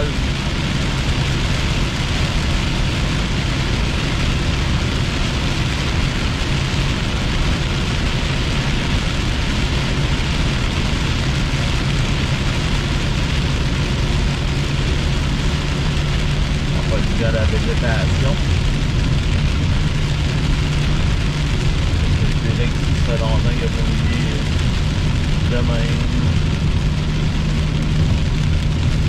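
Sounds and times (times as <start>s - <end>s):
heavy rain on car windshield: 0.0s - 29.0s
low engine drone: 0.0s - 29.0s
tyre and road noise: 0.0s - 29.0s.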